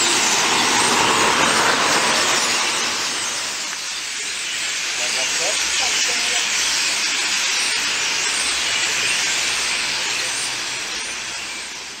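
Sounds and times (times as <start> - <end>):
starlings chattering: 0.0 - 12.0.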